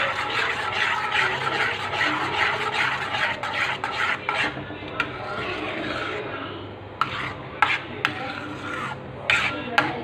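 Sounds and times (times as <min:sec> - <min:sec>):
metal spoon scraping pot: 0:00.0 - 0:06.4, 0:07.0 - 0:10.0.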